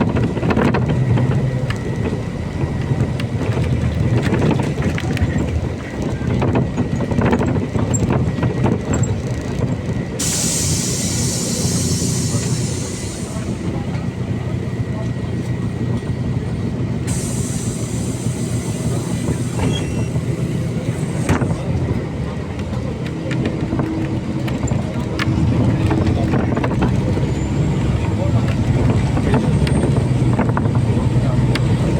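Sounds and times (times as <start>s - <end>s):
bus engine low rumble: 0.0s - 31.9s.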